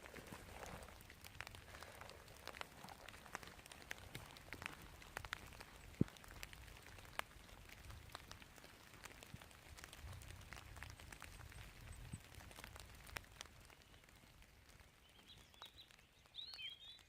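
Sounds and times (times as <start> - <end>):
raindrops pattering: 0.0 - 17.0.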